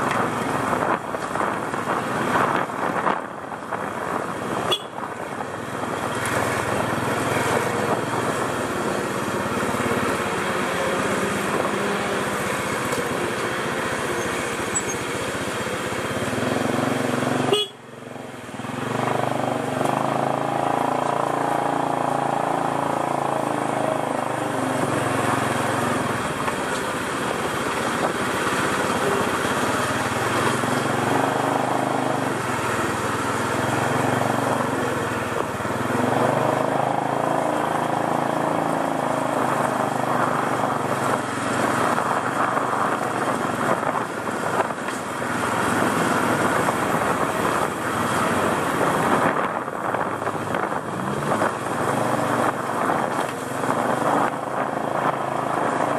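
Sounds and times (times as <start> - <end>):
wind and traffic noise: 0.0 - 55.9.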